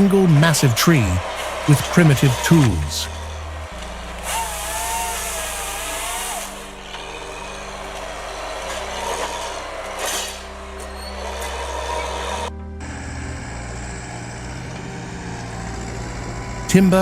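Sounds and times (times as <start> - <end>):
engine hum: 0.0 - 17.0
wavering whine: 0.0 - 17.0
wood cutting bursts: 0.0 - 17.0.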